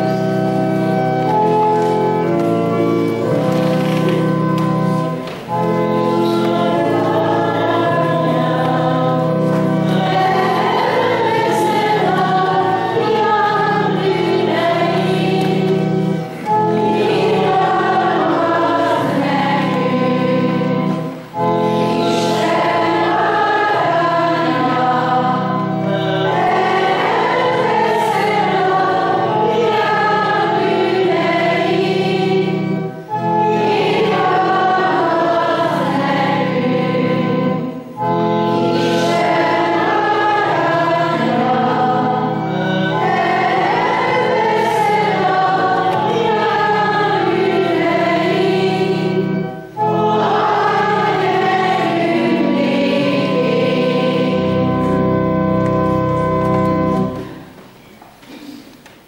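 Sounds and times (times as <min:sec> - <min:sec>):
choir singing a hymn: 0:00.0 - 0:57.6
organ holding low notes: 0:00.0 - 0:57.9.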